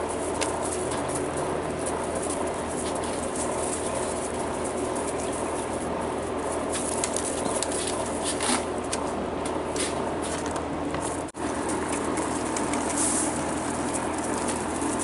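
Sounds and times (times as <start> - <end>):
puppies scratching on gravel: 0.0 - 15.0.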